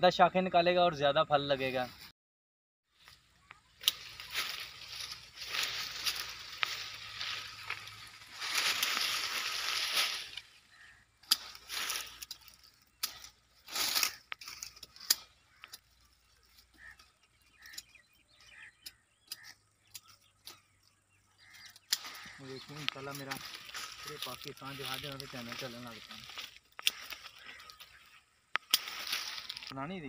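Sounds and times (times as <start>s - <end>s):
rustling leaves and grass: 2.9s - 30.0s.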